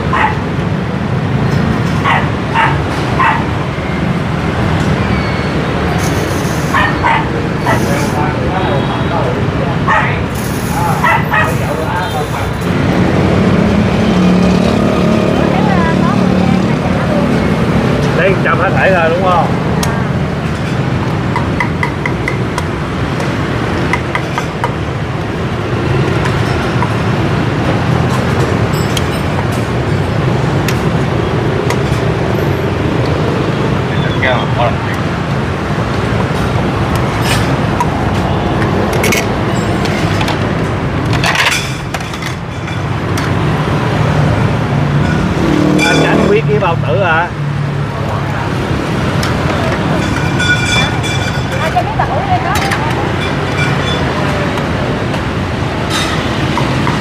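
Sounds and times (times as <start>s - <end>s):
low rumble of street traffic: 0.0s - 57.0s.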